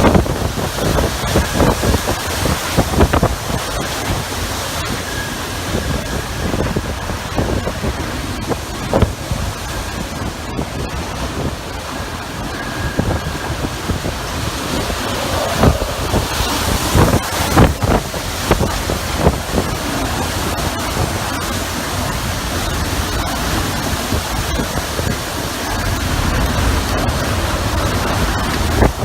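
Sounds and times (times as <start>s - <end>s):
strong wind blowing: 0.0s - 29.0s
wind buffeting microphone: 0.0s - 29.0s.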